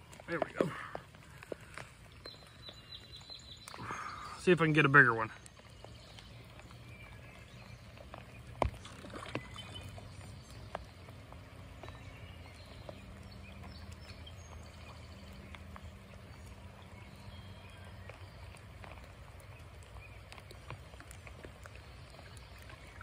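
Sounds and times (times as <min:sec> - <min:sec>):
creek water: 0:00.0 - 0:23.0
light rain: 0:00.0 - 0:23.0.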